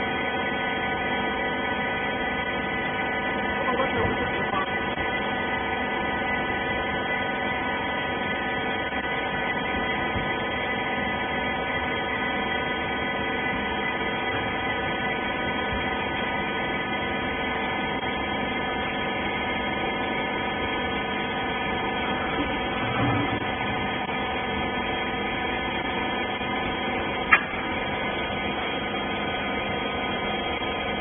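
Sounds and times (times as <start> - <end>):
baler machinery humming: 0.0 - 31.0
constant whining tones: 0.0 - 31.0.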